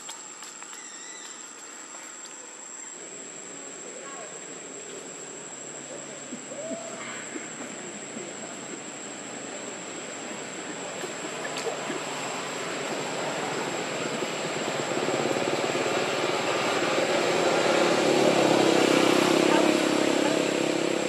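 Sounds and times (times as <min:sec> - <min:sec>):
distant engine noise: 0:00.0 - 0:21.0.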